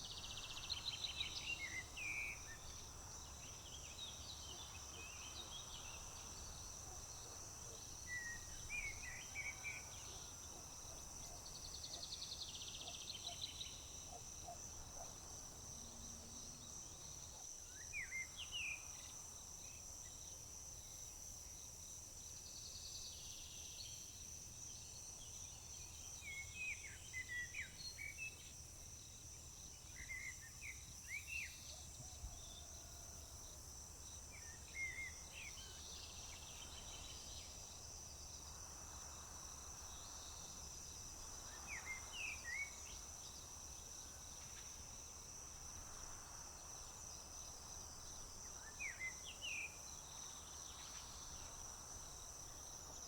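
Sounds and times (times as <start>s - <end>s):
crickets chirping chorus: 0.0s - 53.0s.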